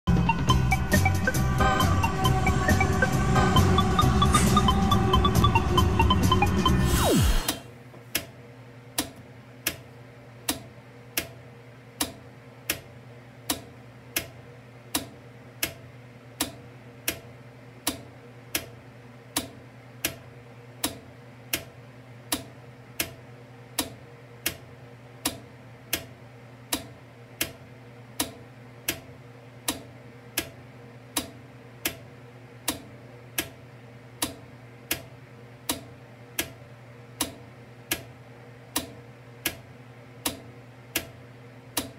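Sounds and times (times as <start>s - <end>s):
steady low hum: 0.1s - 41.9s.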